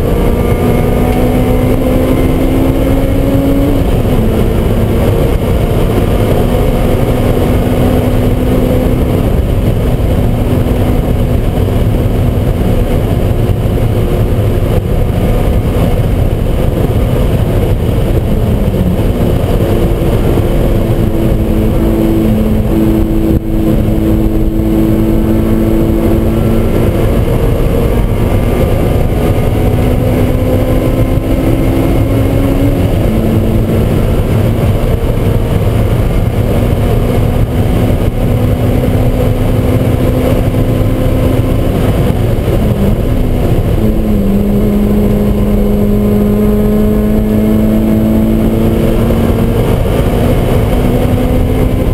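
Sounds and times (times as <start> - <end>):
car engine revving high: 0.0 - 51.9
wind noise: 0.0 - 51.9.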